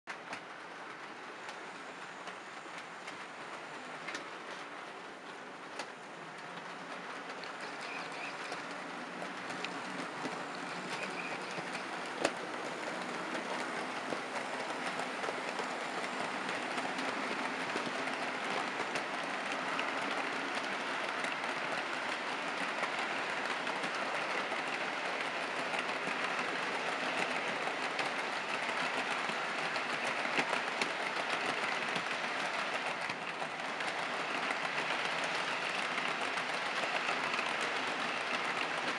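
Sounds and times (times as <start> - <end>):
model train wheels clattering: 0.1 - 38.9.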